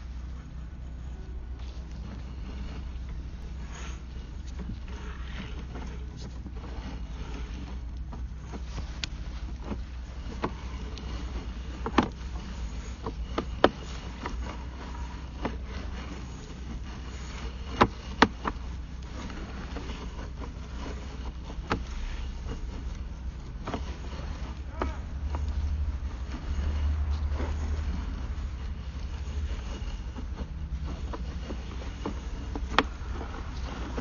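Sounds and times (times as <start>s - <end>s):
low hum: 0.0s - 34.0s
sharp clicks and knocks: 4.3s - 34.0s.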